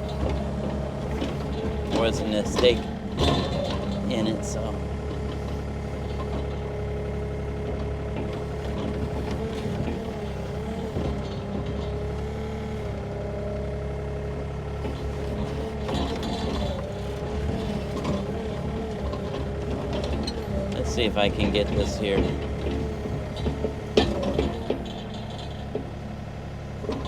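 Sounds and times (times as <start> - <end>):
mini excavator engine whine: 0.0 - 27.0.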